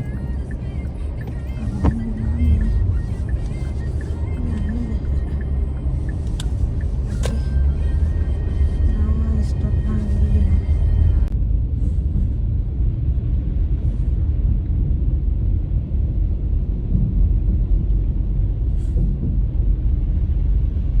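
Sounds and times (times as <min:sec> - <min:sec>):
car driving on road: 0:00.0 - 0:21.0.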